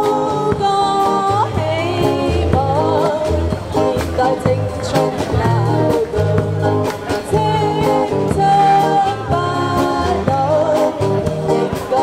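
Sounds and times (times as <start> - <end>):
bass line: 0.0 - 12.0
electric guitar: 0.0 - 12.0
woman singing amplified: 0.0 - 12.0.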